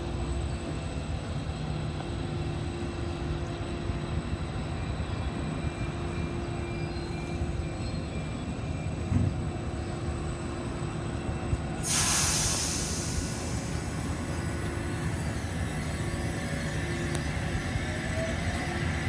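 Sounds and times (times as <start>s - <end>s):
distant locomotive engine drone: 0.0s - 19.0s.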